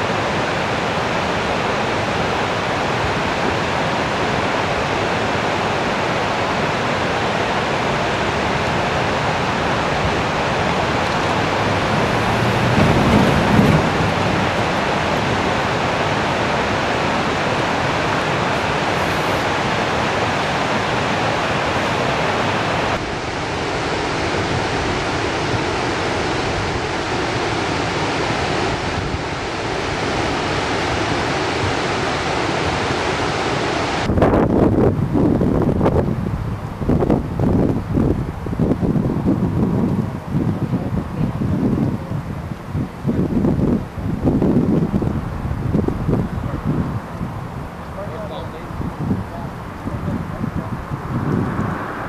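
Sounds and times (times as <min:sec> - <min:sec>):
flood water rushing: 0:00.0 - 0:52.0
wind buffeting microphone: 0:08.5 - 0:32.8, 0:33.9 - 0:52.0.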